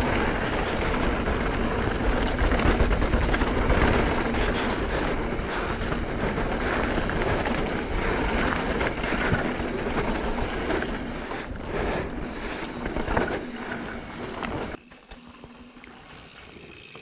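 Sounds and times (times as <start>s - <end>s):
bike rattling over bumps: 0.0s - 17.0s
bike tyres rushing on dirt: 0.0s - 17.0s.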